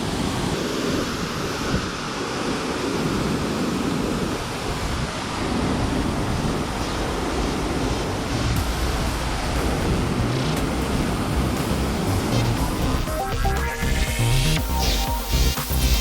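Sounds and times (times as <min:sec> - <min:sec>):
wind rushing: 0:00.0 - 0:14.8
water rushing: 0:00.0 - 0:16.0.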